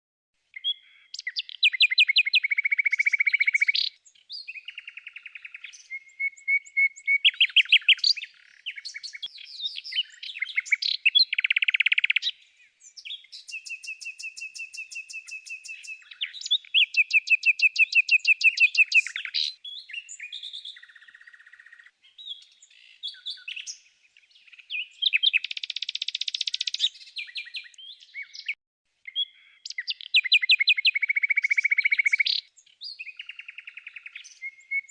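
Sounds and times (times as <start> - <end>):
bird singing trills and chirps: 0.5 - 34.9.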